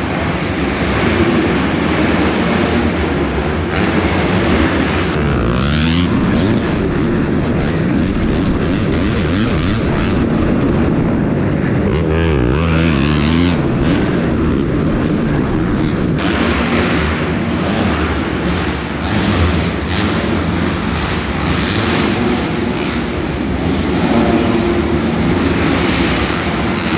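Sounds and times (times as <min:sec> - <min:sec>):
dirt bike engines revving: 0:00.0 - 0:15.3, 0:16.2 - 0:26.9.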